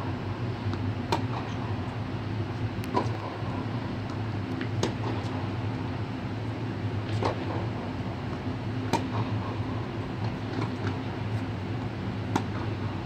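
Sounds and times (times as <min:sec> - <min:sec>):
blower hum: 0:00.0 - 0:13.0.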